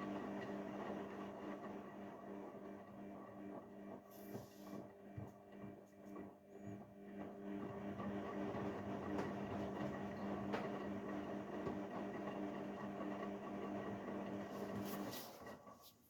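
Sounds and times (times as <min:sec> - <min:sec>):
washing machine motor hum: 0:00.0 - 0:15.9.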